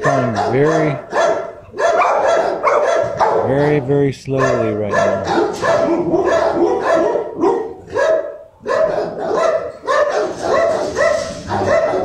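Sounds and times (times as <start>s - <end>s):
dog barking rapidly: 0.0s - 12.0s.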